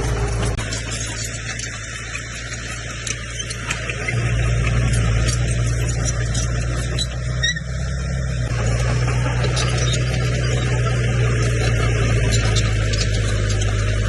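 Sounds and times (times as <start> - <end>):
bulldozer diesel engine: 0.0 - 14.0.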